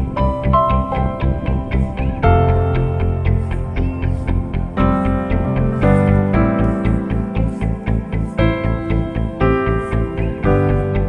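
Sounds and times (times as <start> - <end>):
plucked guitar chords over beat: 0.0 - 11.0.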